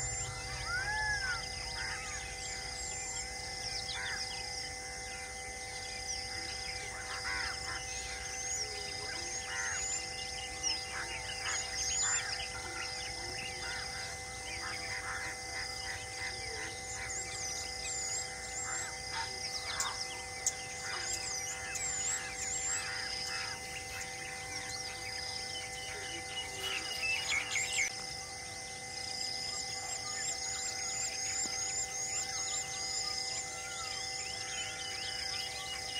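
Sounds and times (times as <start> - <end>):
steady drone of held tones: 0.0 - 35.9
wild birds chirping and calling: 0.0 - 35.9.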